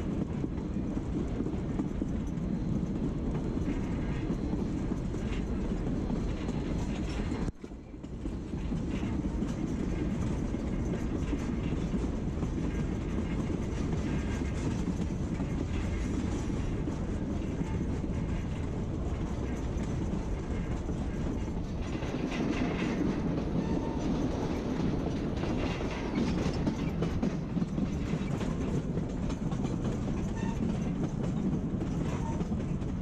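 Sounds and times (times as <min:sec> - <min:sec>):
train rumbling on rails: 0:00.0 - 0:33.0
wheels clacking over rail joints: 0:00.1 - 0:33.0.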